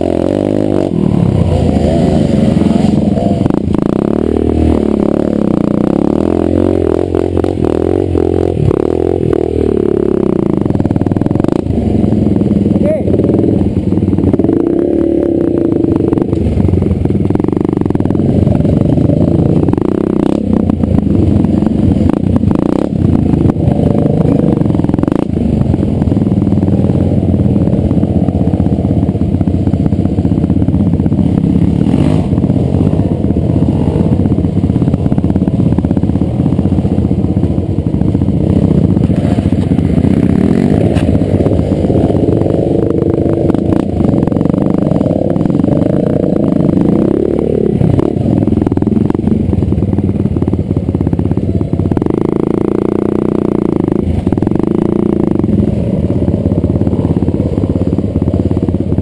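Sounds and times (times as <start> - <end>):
dirt bike engine running: 0.0 - 59.0
knocks and rattles on rough trail: 0.0 - 59.0.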